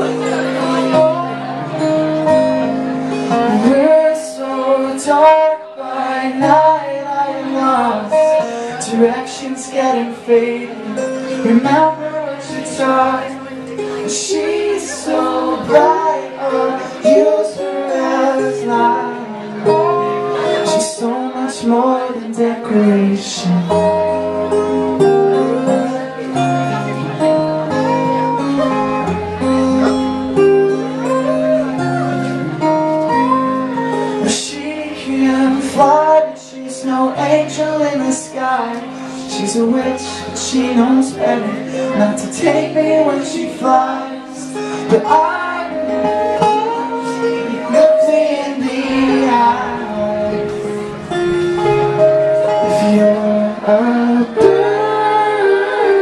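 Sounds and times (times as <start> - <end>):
acoustic guitar strumming: 0.0 - 56.0
person singing long notes: 3.2 - 56.0.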